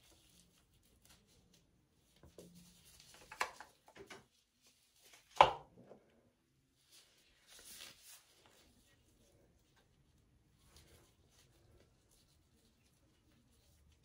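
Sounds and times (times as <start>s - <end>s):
plastic glove rubbing cream: 0.0s - 5.3s, 6.5s - 14.0s.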